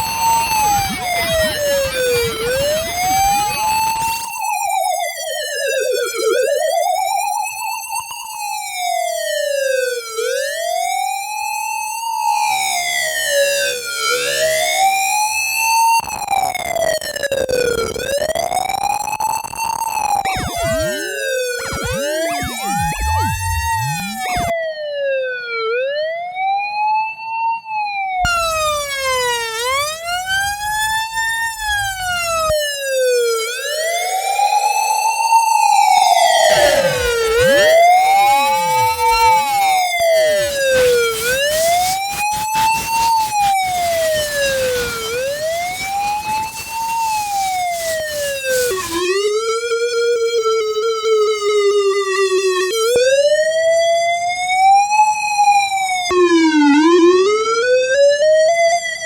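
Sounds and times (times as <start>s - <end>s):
ambulance siren wailing: 0.0s - 59.0s.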